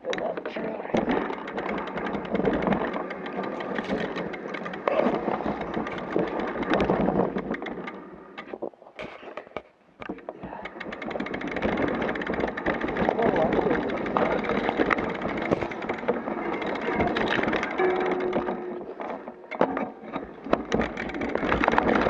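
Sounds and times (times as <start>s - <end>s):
mountain bike rattling: 0.0s - 22.0s
sharp knocks: 0.2s - 9.1s, 10.0s - 22.0s.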